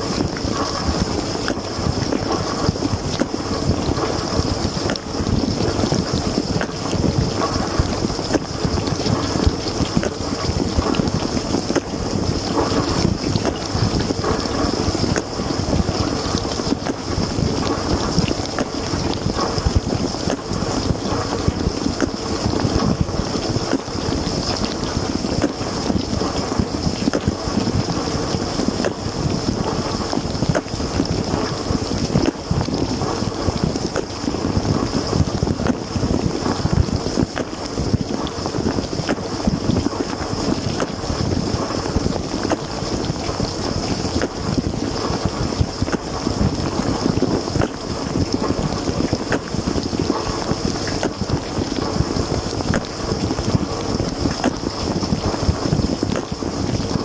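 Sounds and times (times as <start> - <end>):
dishwasher high whine: 0.0 - 57.0
dishwasher water splashing: 0.0 - 57.0.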